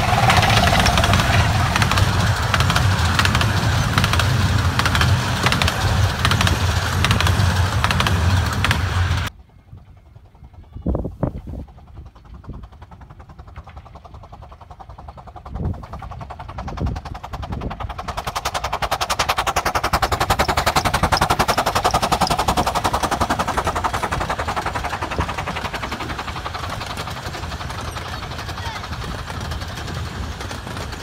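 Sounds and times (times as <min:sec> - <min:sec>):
miniature train passing: 0:00.0 - 0:31.0.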